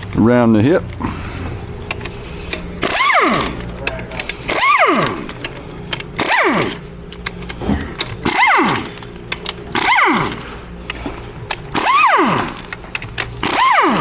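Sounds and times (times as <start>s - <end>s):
air tool motor whining: 0.0s - 14.0s
exhaust air hissing: 0.0s - 14.0s.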